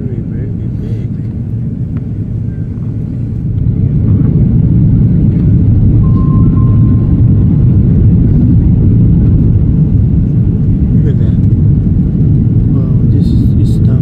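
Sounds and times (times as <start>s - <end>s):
airliner cabin rumble: 0.0s - 14.0s
jet engines: 0.0s - 14.0s
rushing air: 0.6s - 13.6s.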